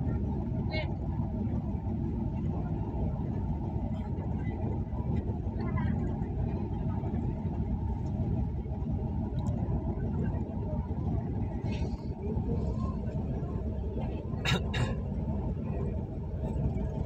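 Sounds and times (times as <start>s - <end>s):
engine rumble inside cabin: 0.0s - 17.0s.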